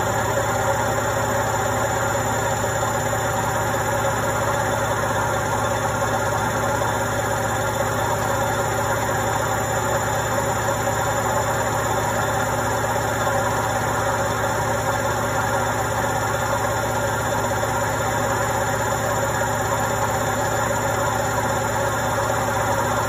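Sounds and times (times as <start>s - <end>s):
washing machine spin whirring: 0.0s - 23.0s.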